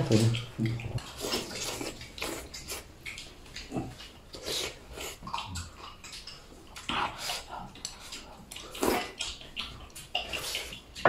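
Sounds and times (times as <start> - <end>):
slurping and chewing: 0.0 - 11.0.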